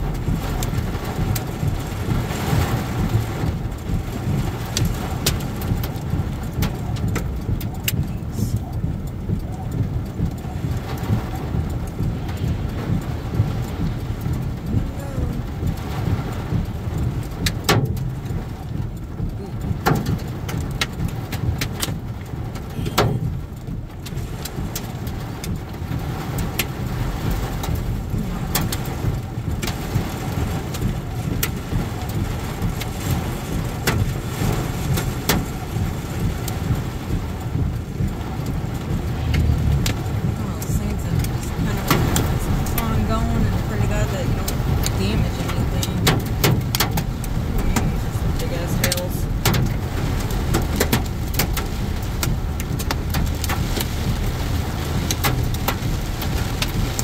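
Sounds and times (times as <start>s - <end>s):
heavy rain rumble: 0.0s - 57.0s
raindrops tapping on car roof: 0.0s - 57.0s.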